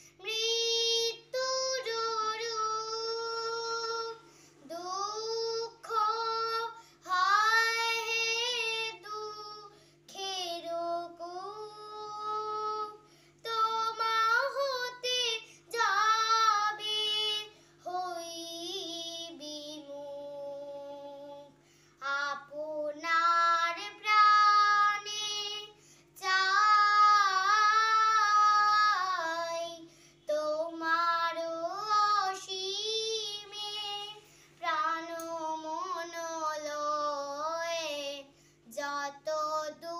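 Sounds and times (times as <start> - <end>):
faint steady hum: 0.0 - 39.9
girl singing: 0.0 - 39.9.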